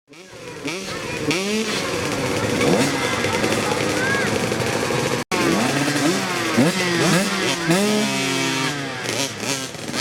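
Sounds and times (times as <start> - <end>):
motocross bike engines revving: 0.1 - 10.0.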